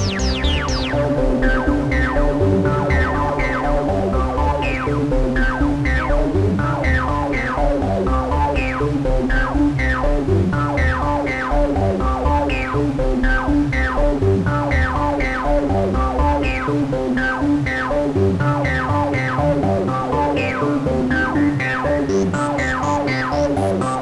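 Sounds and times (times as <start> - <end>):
synth bass sequence: 0.0 - 24.0.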